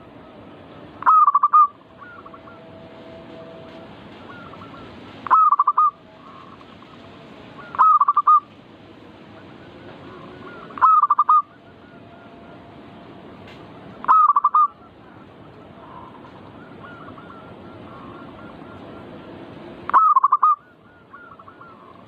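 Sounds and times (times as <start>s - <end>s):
dove cooing: 1.0s - 2.9s, 4.1s - 8.5s, 9.3s - 12.9s, 13.7s - 22.0s.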